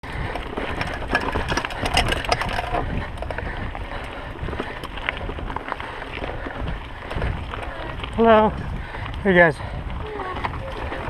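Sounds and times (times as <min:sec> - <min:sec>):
bike rattling and clicking: 0:00.0 - 0:11.0
bike rolling over trail: 0:00.0 - 0:11.0
wind rumbling on microphone: 0:00.0 - 0:11.0.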